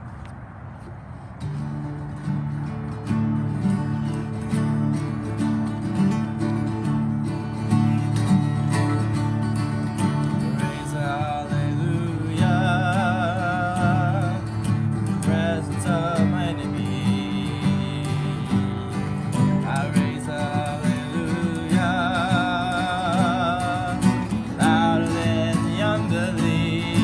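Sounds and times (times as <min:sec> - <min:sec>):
acoustic guitar strumming: 0:01.4 - 0:27.0.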